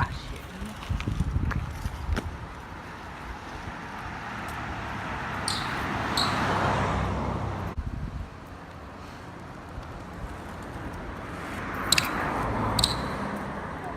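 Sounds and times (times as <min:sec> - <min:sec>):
road vehicle passing: 0:00.0 - 0:13.9.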